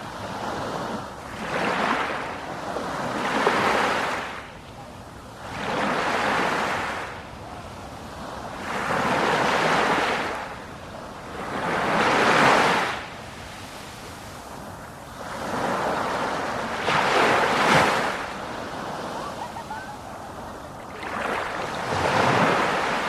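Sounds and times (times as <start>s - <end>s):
sea waves washing onto shore: 0.0s - 23.0s.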